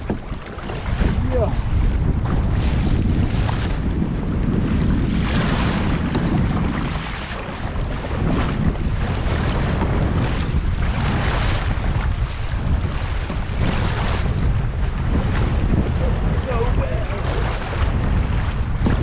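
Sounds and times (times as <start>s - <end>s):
lake water splashing: 0.0s - 19.0s
wind buffeting microphone: 0.0s - 19.0s.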